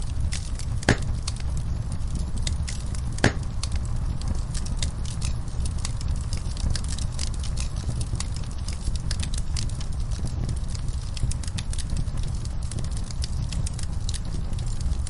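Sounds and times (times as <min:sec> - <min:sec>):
fireplace fire crackling: 0:00.0 - 0:15.0
low fire rumble: 0:00.0 - 0:15.0.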